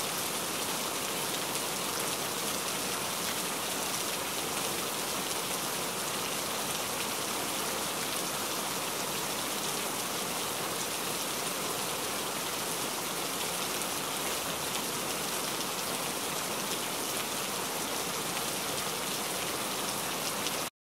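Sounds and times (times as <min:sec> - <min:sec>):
heavy rain falling: 0:00.0 - 0:20.7.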